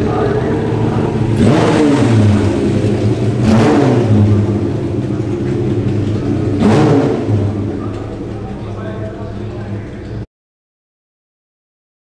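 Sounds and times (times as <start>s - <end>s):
race car engine idling and revving: 0.0s - 10.3s.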